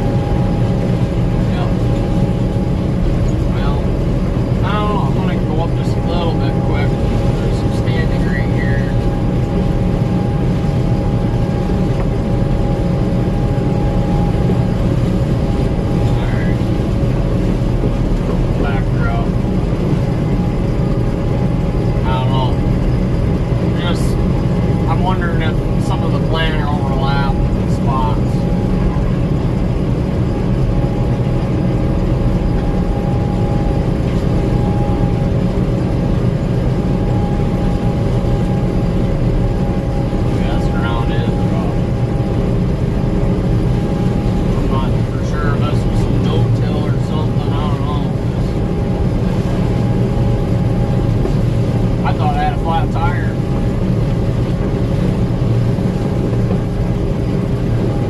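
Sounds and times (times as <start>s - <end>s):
combine harvester droning: 0.0s - 58.0s
high machine whine: 0.0s - 58.0s.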